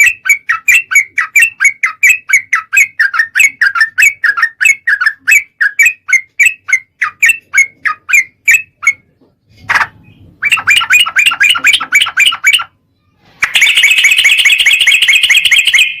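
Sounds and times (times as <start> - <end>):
bird chirping and trilling: 0.0 - 16.0.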